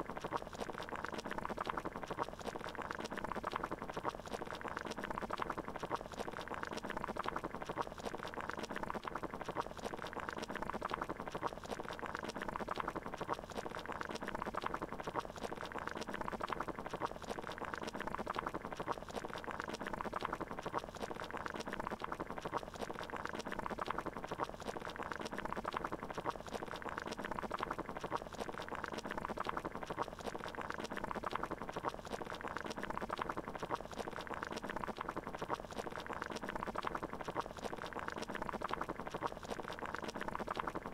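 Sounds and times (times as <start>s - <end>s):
water boiling: 0.0s - 40.9s.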